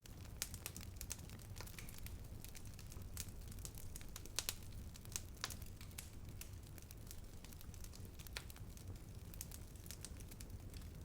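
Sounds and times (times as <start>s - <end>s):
low rumble of fire: 0.0s - 11.0s
wood fire crackling and popping: 0.0s - 11.0s.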